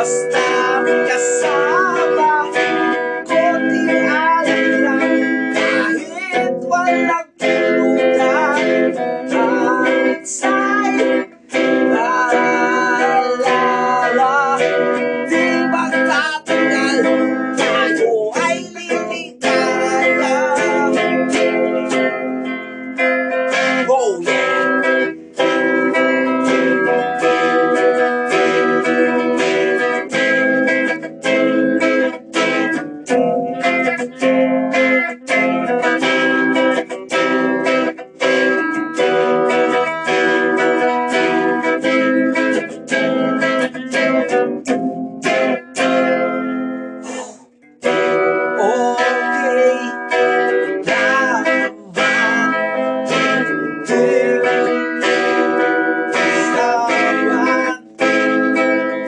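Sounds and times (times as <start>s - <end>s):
electric guitar picked melody: 0.0s - 59.0s.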